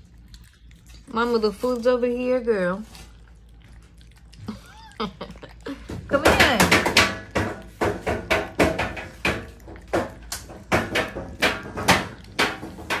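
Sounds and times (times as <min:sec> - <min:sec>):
puppies lapping wet food: 0:00.0 - 0:13.0.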